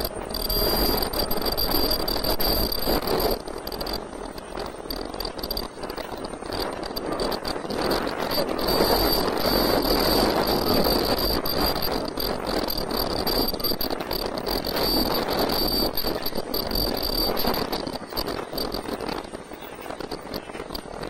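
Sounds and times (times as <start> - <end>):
high-pitched machine whine: 0.0 - 21.0
machine mechanical clatter: 0.0 - 21.0.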